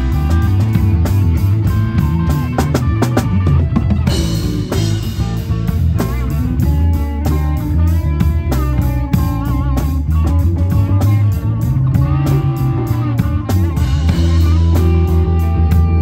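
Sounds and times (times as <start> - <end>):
deep bass notes: 0.0 - 16.0
drum kit beat: 0.0 - 16.0
electric guitar bent notes: 0.0 - 16.0.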